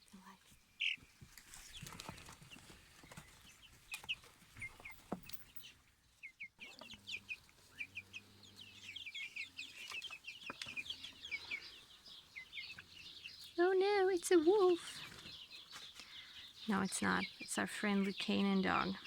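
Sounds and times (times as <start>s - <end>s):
chicks peeping: 0.2s - 19.0s.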